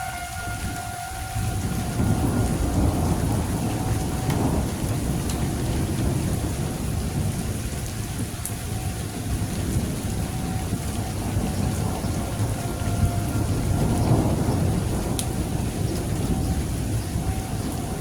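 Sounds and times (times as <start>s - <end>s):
low rumbling storm noise: 0.0s - 18.0s
warning siren wailing: 0.0s - 18.0s.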